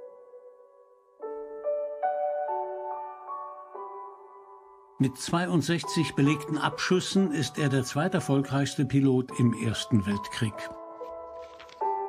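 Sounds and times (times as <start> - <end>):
soft slow background music: 0.0 - 12.0.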